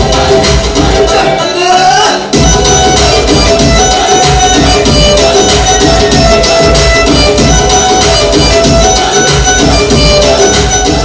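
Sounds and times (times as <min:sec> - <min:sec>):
loud dance song with fast beat: 0:00.0 - 0:11.0.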